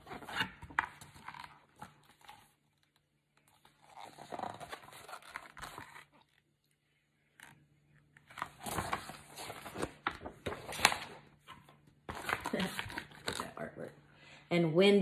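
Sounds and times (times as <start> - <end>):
book pages rustling: 0.0 - 13.8.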